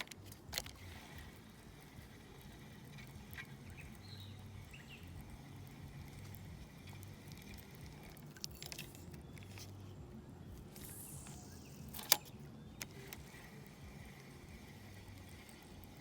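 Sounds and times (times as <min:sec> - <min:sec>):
fishing reel clicks: 0:00.0 - 0:09.8, 0:10.6 - 0:16.0.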